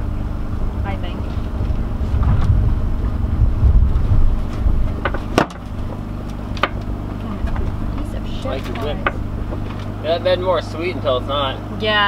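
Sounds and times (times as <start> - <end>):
low rumble: 0.0 - 10.1
boat engine humming: 0.0 - 12.0.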